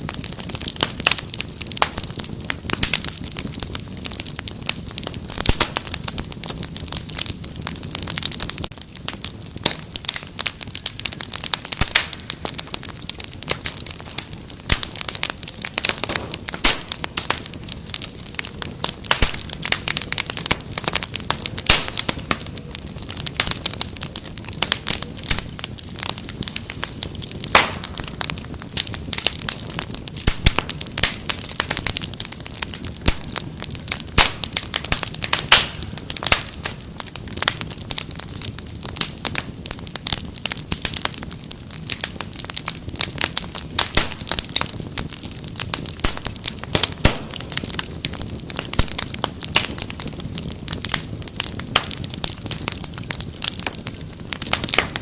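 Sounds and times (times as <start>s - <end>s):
fire pops and snaps: 0.0s - 55.0s
flames hissing and rumbling: 0.0s - 55.0s
wood fire crackling: 0.0s - 55.0s.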